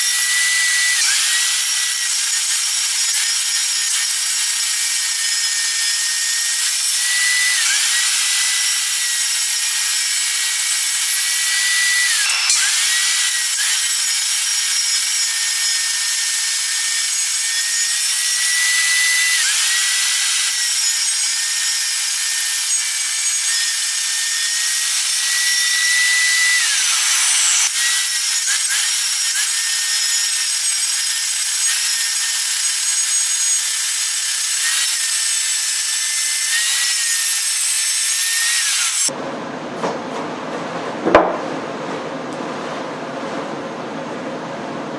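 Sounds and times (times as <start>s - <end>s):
circular saw cutting wood: 0.0s - 39.2s.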